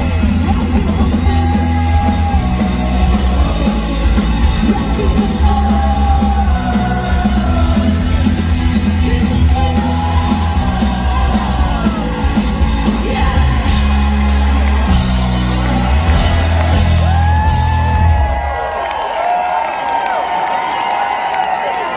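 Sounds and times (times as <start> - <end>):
ska-punk band playing live: 0.0 - 18.6
sung and yelled vocals: 0.0 - 18.6.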